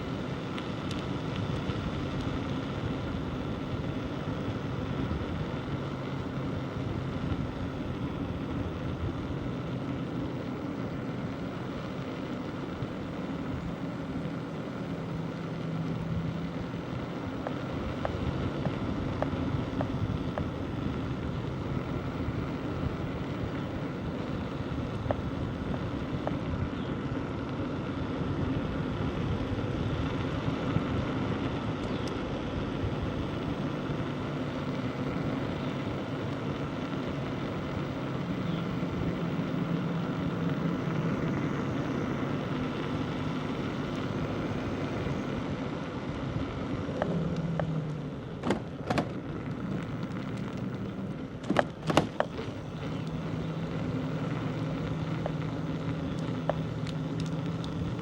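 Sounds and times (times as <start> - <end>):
bicycle tyres rolling on road: 0.0 - 58.0.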